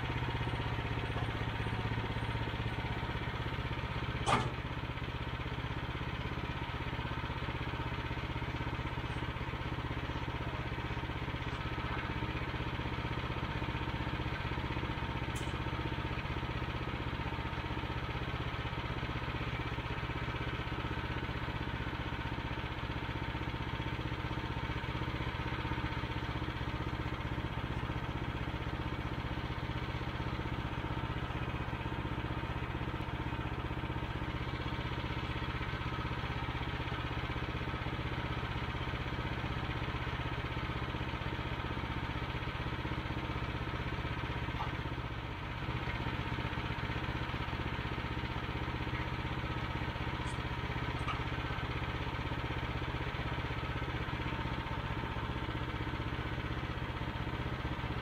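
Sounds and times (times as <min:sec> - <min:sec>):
small gas engine running: 0:00.0 - 0:58.0.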